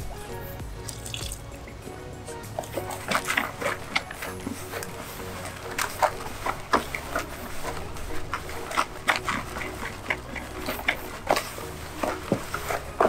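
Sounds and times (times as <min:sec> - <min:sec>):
wet squelching of kneaded bait: 0:00.4 - 0:13.0.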